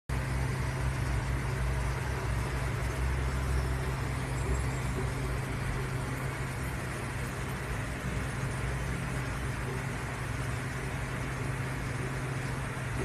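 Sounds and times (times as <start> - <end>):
low mechanical hum: 0.1 - 13.0.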